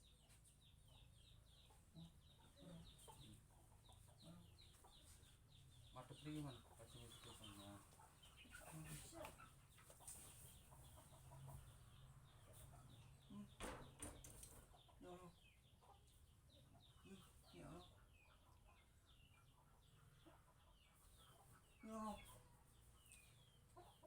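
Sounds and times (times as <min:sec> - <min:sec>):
faint chickens clucking: 0:00.0 - 0:24.0.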